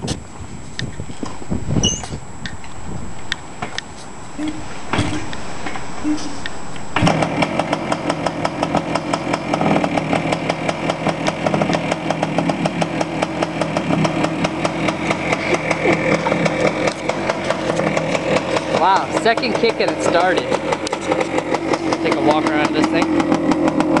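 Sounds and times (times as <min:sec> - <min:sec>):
motorcycle engine idling: 0:02.6 - 0:24.0
motorcycle engine kick starting: 0:04.5 - 0:24.0.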